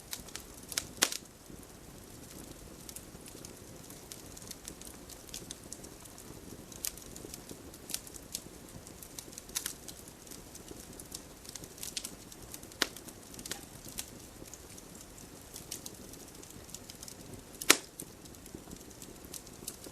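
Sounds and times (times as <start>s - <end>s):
campfire crackling: 0.0s - 19.9s.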